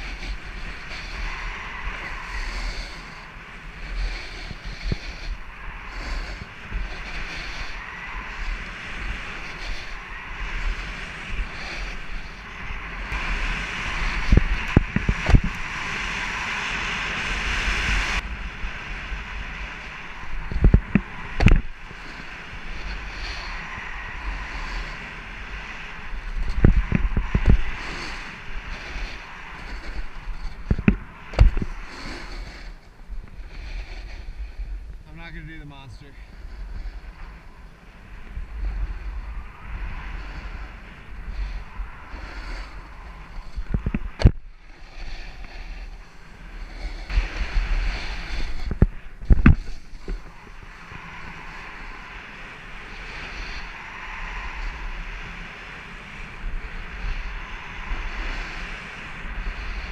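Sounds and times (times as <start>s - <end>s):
snowboard scraping on packed snow: 0.0s - 35.7s, 38.4s - 55.8s
wind on microphone: 0.0s - 59.9s.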